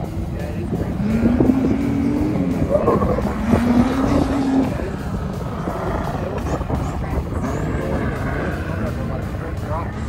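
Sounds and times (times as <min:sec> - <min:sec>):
buggy engine droning: 0:00.0 - 0:10.0.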